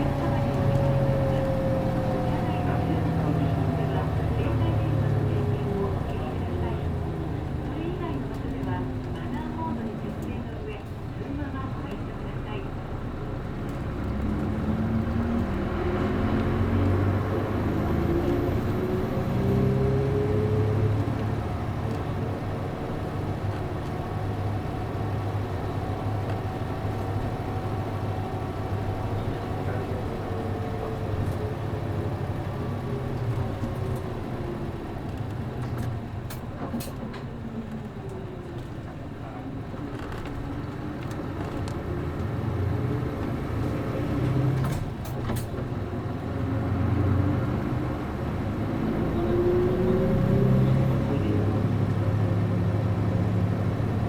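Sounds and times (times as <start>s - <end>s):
bus diesel engine accelerating: 0.0s - 54.0s.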